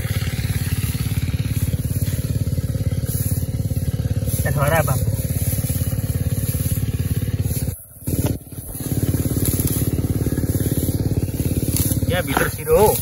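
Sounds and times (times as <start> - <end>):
portable generator engine running: 0.0 - 13.0.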